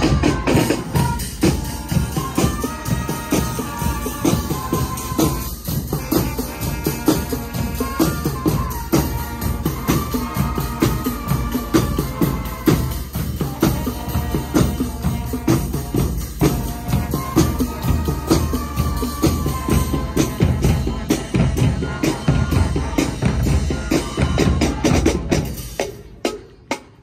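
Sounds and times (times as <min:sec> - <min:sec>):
brass band melody: 0:00.0 - 0:26.9
snare drum marching rhythm: 0:00.0 - 0:27.0.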